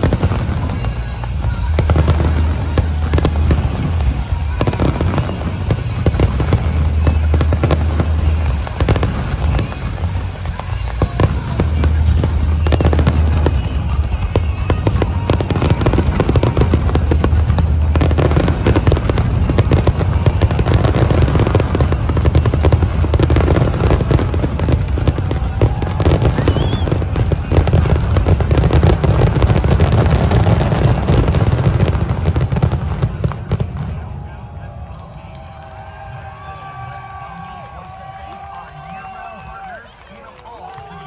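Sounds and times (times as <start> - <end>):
fireworks bangs: 0.0 - 41.0.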